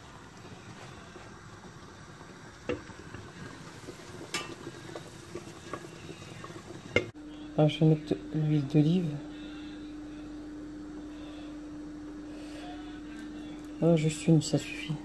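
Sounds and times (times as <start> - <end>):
broth simmering low bubbling: 0.0 - 15.0.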